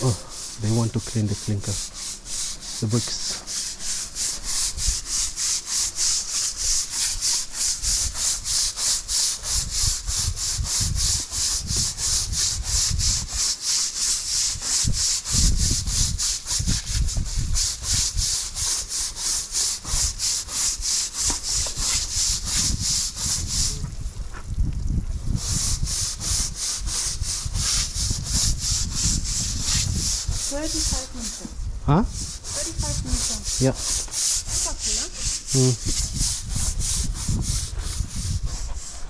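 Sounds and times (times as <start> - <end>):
water jet hissing against brick: 0.0 - 39.0.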